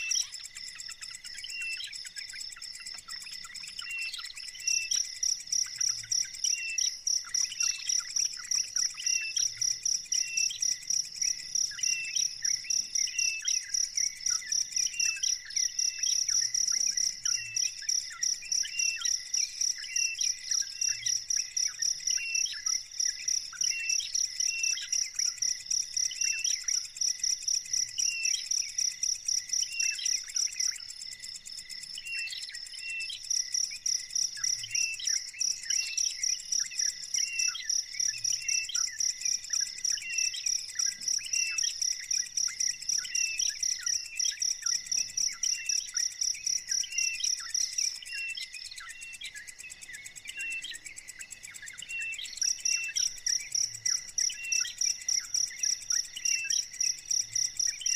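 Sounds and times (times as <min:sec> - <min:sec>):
bird chirping: 0:00.0 - 0:57.9
cricket chirping: 0:00.0 - 0:57.9.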